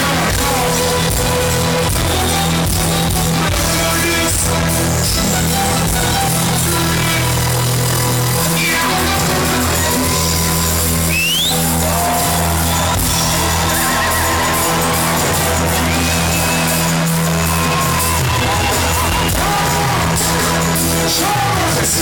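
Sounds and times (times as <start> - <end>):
heavy bass line: 0.0 - 22.0
reggae music over loudspeakers: 0.0 - 22.0.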